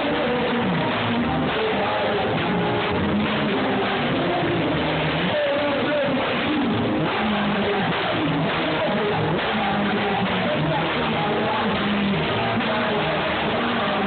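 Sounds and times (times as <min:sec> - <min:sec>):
congregation singing: 0:00.0 - 0:14.0
live worship band with guitar: 0:00.0 - 0:14.0.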